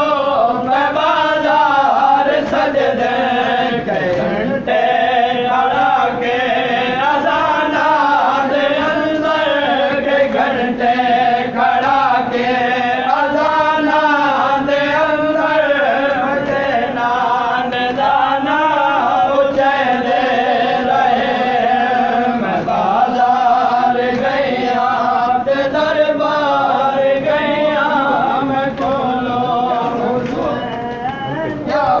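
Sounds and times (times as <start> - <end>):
men chanting a lament: 0.0 - 32.0.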